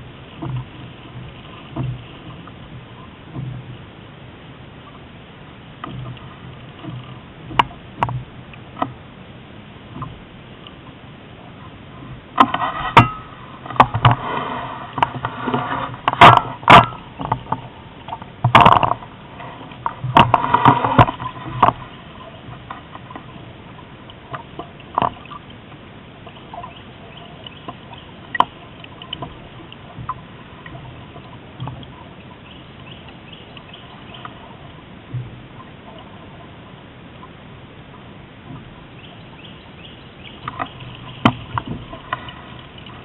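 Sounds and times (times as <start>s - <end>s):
water slapping against boat hull: 0.0s - 3.8s, 5.8s - 9.0s, 12.0s - 36.4s, 38.4s - 43.0s.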